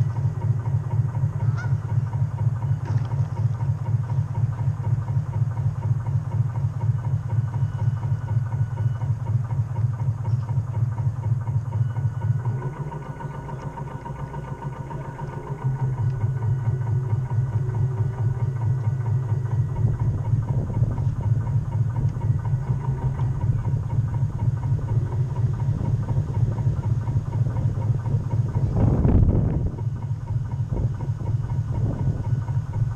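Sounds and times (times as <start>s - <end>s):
model boat motor droning: 0.0s - 32.9s.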